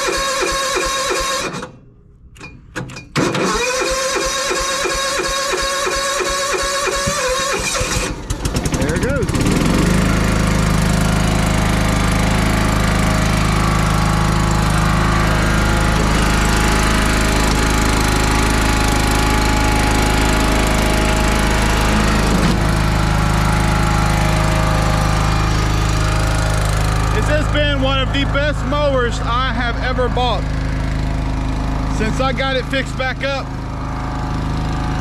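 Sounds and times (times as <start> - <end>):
mower engine running: 0.0 - 1.8, 3.2 - 35.0.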